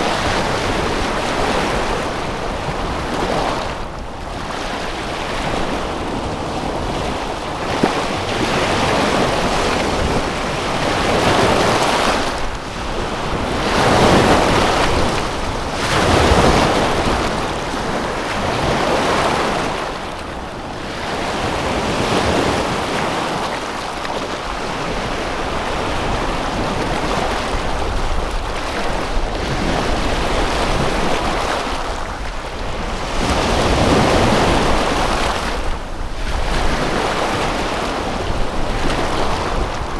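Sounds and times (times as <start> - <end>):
waves washing in: 0.0 - 39.9
wind: 0.0 - 39.9.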